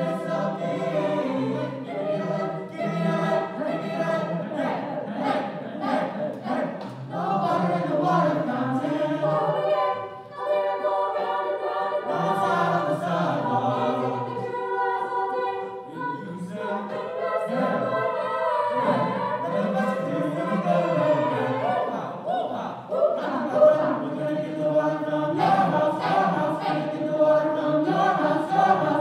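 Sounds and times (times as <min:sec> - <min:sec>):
mixed choir singing in harmony: 0:00.0 - 0:29.0.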